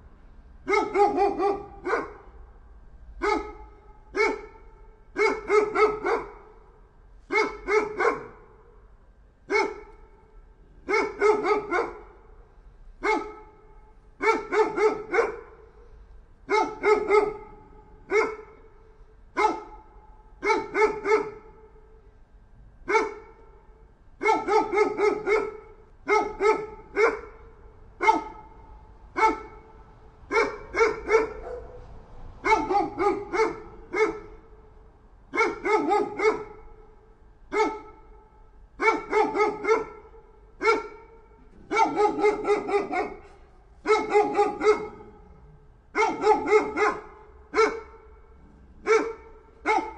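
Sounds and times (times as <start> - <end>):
dog barking: 0.6 - 2.4, 3.2 - 12.4, 13.0 - 22.0, 22.8 - 49.9.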